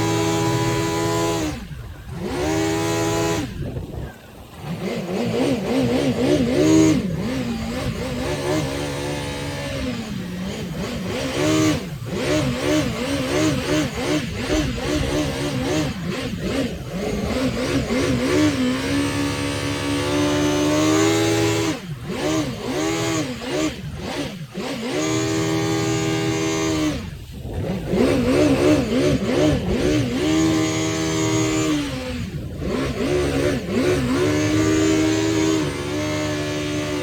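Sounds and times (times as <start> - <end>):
jet ski engine revving: 0.0 - 37.0.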